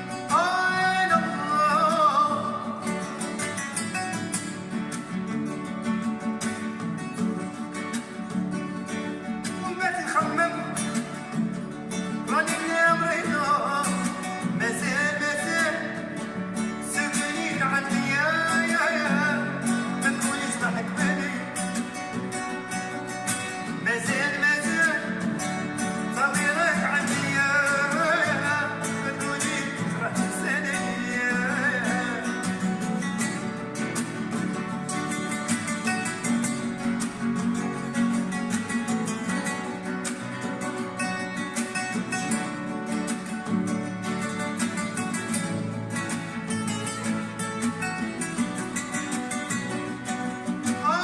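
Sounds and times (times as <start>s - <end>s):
plucked guitar: 0.0s - 51.0s.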